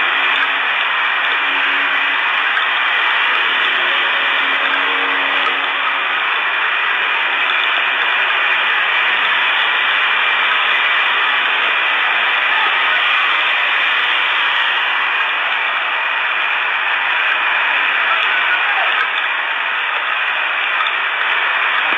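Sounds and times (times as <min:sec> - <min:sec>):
static hiss: 0:00.0 - 0:21.9.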